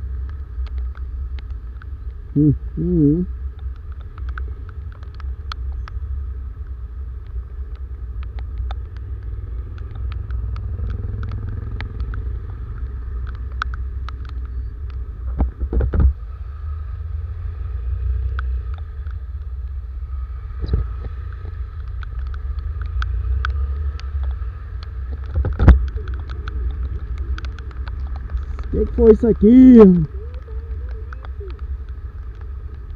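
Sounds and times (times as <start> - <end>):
raindrops ticking on camera: 0.0 - 16.5, 17.4 - 32.9
motorcycle engine rumbling: 0.0 - 32.9.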